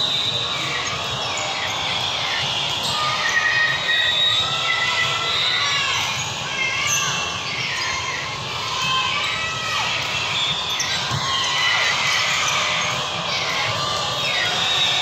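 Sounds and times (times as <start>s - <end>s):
people calling out: 0.0s - 15.0s.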